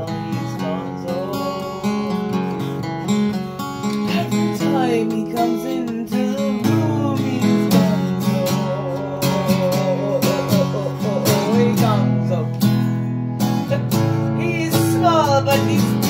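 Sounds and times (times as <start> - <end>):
acoustic guitar strumming chords: 0.0 - 16.0
person singing without words: 0.0 - 16.0.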